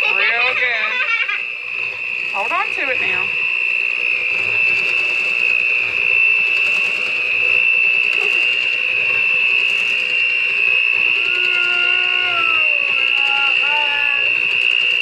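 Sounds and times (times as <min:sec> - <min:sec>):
electric hand mixer running: 0:00.0 - 0:15.0.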